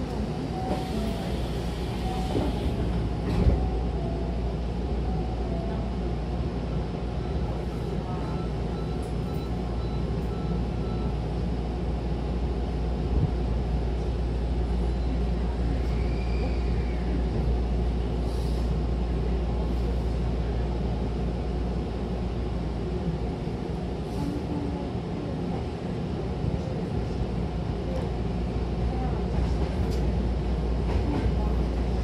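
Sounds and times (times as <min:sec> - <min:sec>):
train running rumble: 0:00.0 - 0:32.0.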